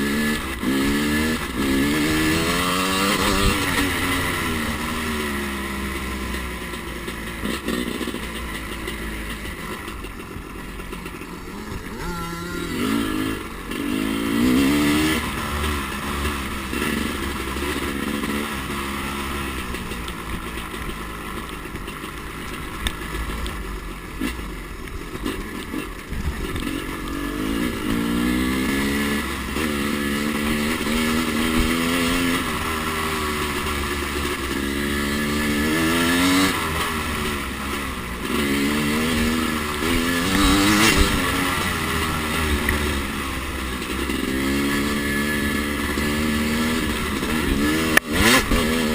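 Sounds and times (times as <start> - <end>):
dirt bike engine revving: 0.0 - 21.4, 25.2 - 48.9.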